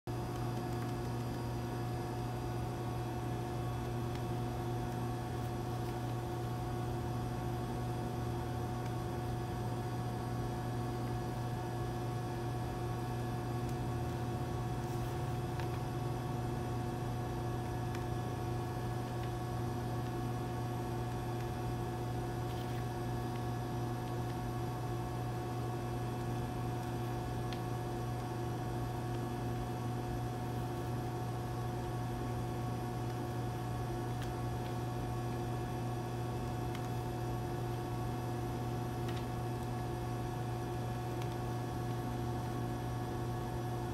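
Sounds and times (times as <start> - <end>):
machine hum: 0.1 - 43.9.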